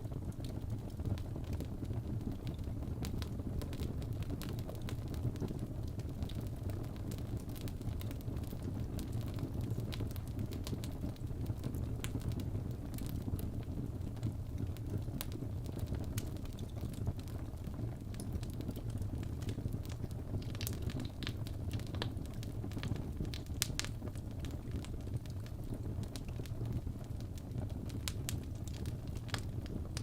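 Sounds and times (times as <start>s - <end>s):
fire rumbling: 0.0s - 30.0s
wood crackling and popping: 0.0s - 30.0s.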